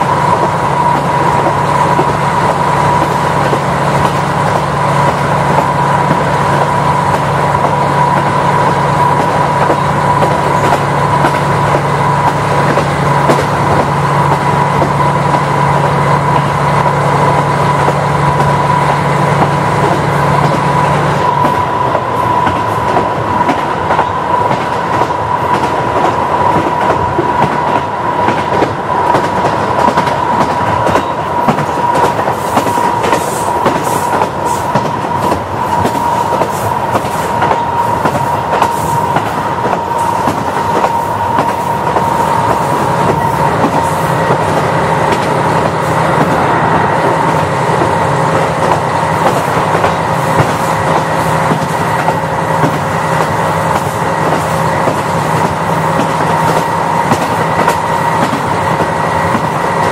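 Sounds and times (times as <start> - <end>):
railcar whine: 0.0 - 59.9
wheels clicking on rail joints: 0.0 - 59.9.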